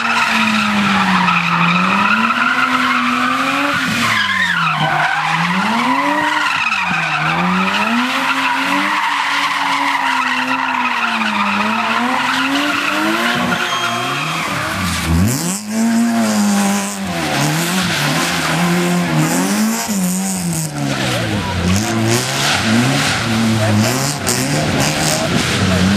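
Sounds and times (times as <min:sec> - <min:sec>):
tyres squealing: 0:00.0 - 0:25.2
car engine revving: 0:00.0 - 0:25.9.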